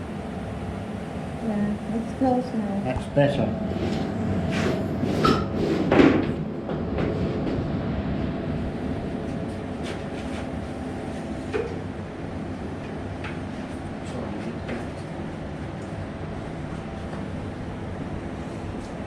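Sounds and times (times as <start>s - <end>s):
workshop machinery drone: 0.0s - 19.0s.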